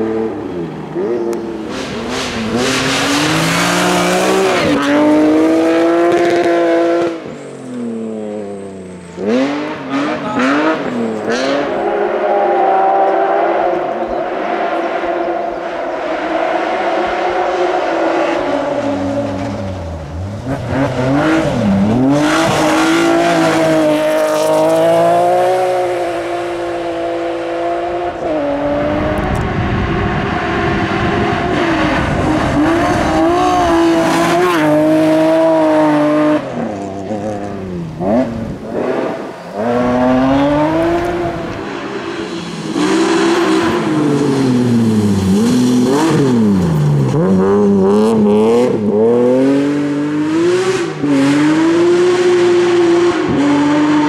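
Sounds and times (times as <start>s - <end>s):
gravel spray and tyre noise: 0.0s - 54.0s
rally car engines revving: 0.0s - 54.0s.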